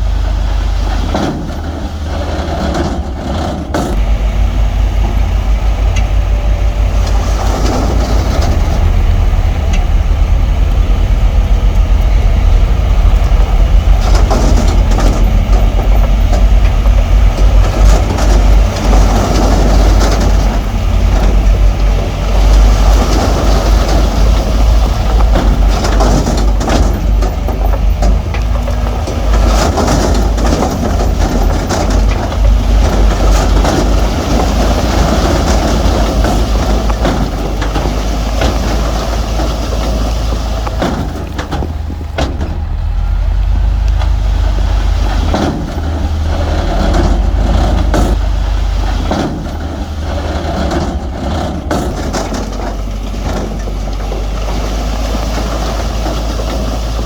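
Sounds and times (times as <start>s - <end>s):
diesel engine under load: 0.0s - 57.0s
rock clattering and grinding: 6.9s - 43.0s, 43.6s - 57.0s.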